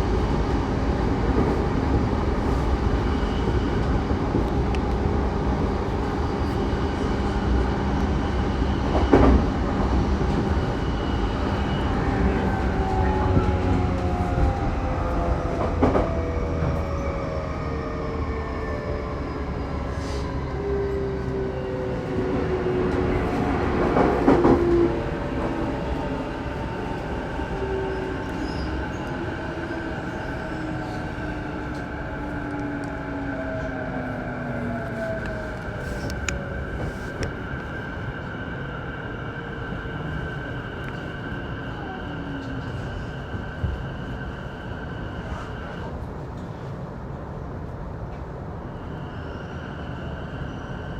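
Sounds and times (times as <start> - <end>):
train wheel and rail rumble: 0.0 - 50.9.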